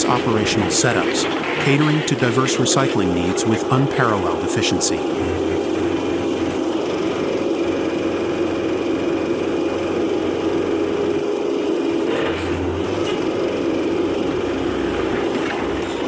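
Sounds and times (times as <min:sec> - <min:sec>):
baler engine mechanical drone: 0:00.0 - 0:16.0.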